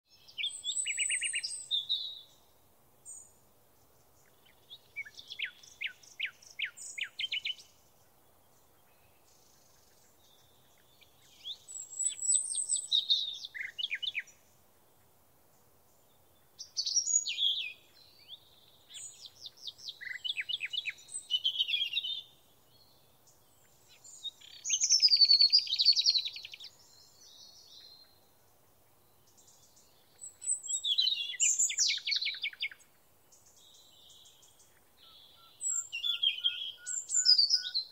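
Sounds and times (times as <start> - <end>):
songbird trilling and chirping: 0.1 - 2.5, 3.1 - 15.1, 15.9 - 37.9.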